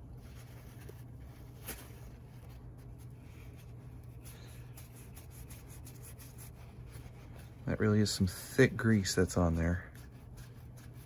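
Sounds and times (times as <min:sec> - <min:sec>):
low steady hum: 0:00.0 - 0:11.0
paper towel rubbing gears: 0:00.2 - 0:11.0.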